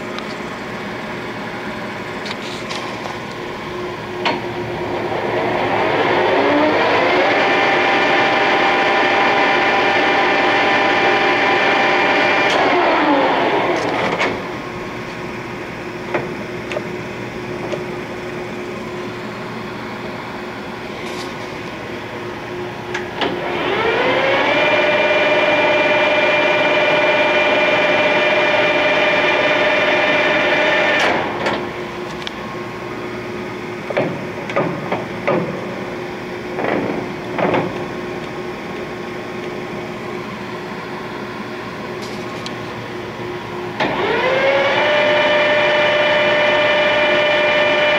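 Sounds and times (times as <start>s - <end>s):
lathe humming: 0.0s - 33.8s, 37.9s - 47.9s
lathe spindle whine: 0.0s - 33.9s, 38.0s - 47.9s.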